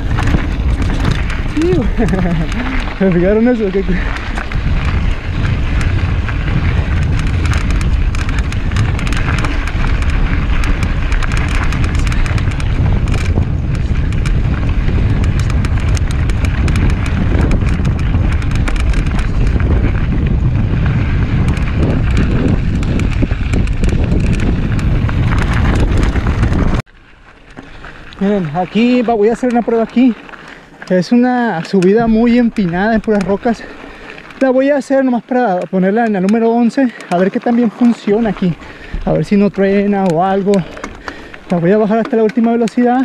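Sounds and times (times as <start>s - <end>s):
wind rushing over microphone: 0.0s - 34.6s, 36.6s - 42.4s
bike tyres and frame rattling: 0.0s - 43.0s.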